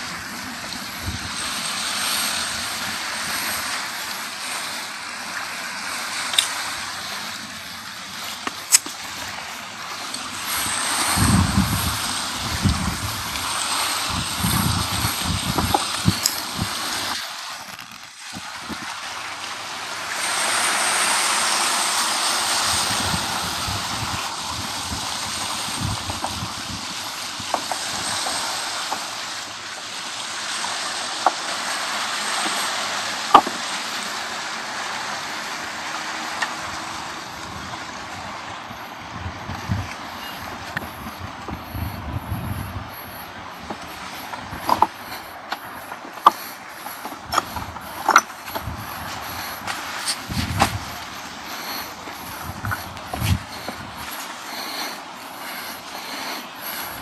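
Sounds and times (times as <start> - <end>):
wind rumble on microphone: 0.0 - 17.2, 19.8 - 29.3, 30.4 - 57.0
surf washing on shore: 0.0 - 57.0.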